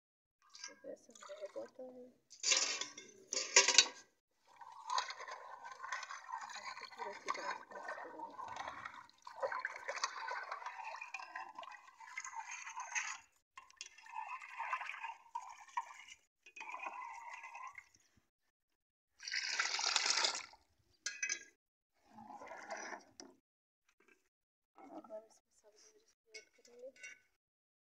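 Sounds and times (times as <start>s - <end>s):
liquid sloshing in a bowl: 0.4s - 18.3s, 19.2s - 25.1s.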